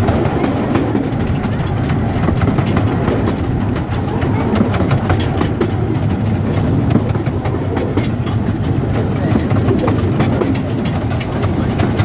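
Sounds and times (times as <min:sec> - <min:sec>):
clicks and rattles from rails: 0:00.0 - 0:12.0
train wheels rumbling: 0:00.0 - 0:12.0.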